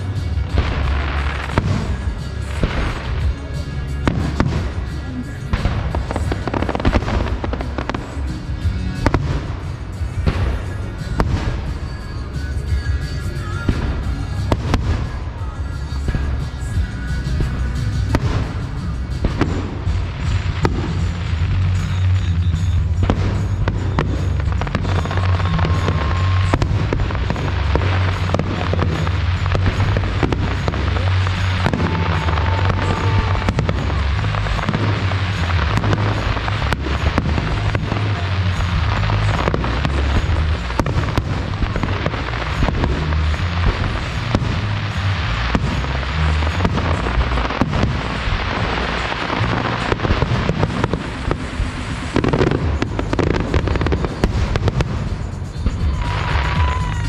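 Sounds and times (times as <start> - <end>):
continuous low rumble: 0.0 - 57.0
fireworks bangs and crackles: 0.0 - 57.0.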